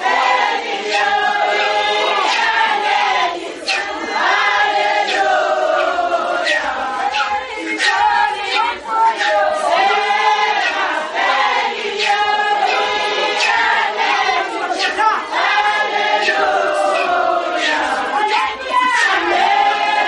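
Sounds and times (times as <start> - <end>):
congregation singing: 0.0 - 20.0.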